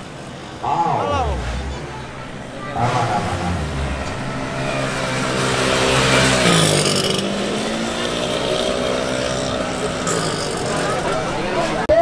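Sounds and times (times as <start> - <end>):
motorcycle engine revving past: 1.2 - 11.2.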